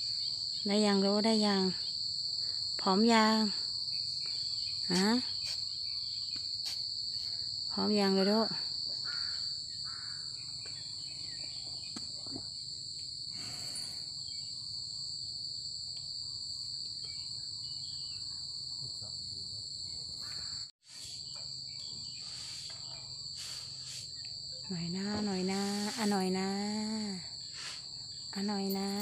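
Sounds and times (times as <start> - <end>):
insect chorus: 0.0 - 29.0.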